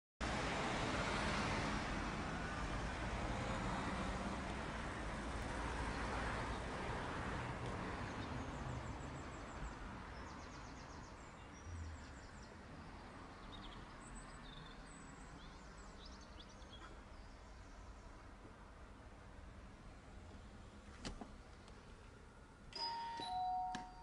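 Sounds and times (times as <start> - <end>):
traffic noise: 0.2 - 24.0.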